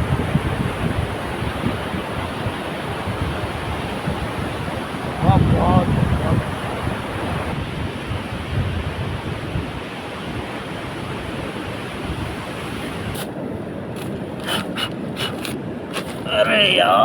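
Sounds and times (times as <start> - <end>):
wind buffeting microphone: 0.0 - 16.3
sea surf: 0.0 - 17.0.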